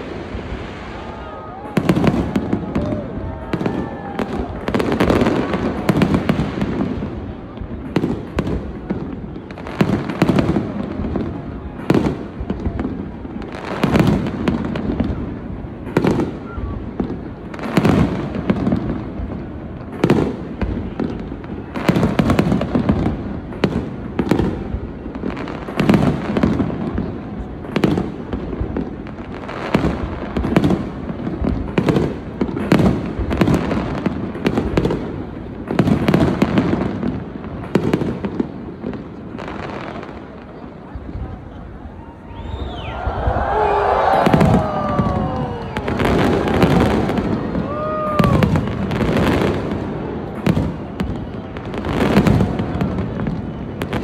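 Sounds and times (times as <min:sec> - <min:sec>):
firework bangs: 0:00.0 - 0:54.0.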